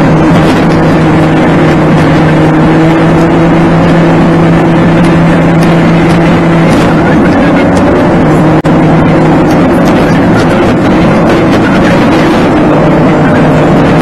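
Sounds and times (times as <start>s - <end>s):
car engine humming: 0.0s - 14.0s
road and tyre noise: 0.0s - 14.0s.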